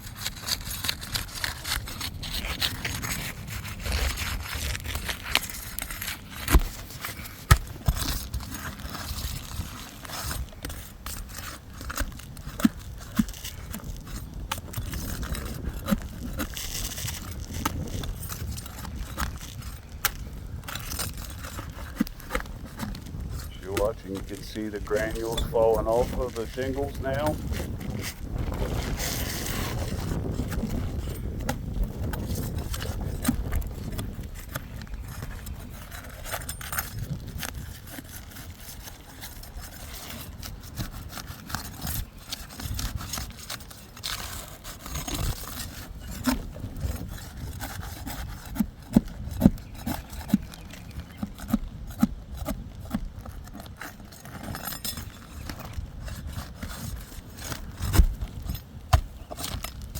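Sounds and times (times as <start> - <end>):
scraping on roof shingles: 0.0 - 59.9.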